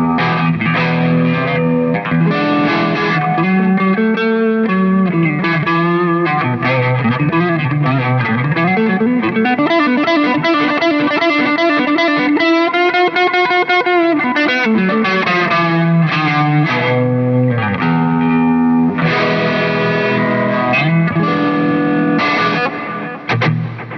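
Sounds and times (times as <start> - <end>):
distorted electric guitar: 0.0 - 23.9.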